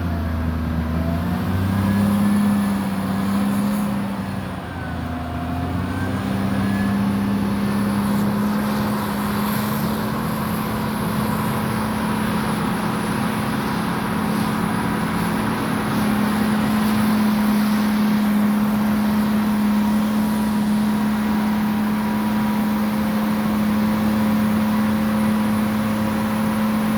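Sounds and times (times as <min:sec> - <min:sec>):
truck engine running: 0:02.2 - 0:26.9.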